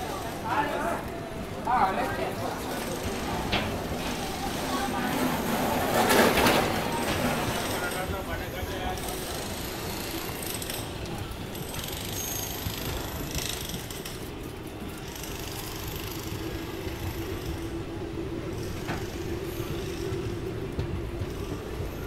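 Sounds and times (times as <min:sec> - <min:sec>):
train rumbling: 0:00.0 - 0:22.0
train wheels whining: 0:00.0 - 0:22.0.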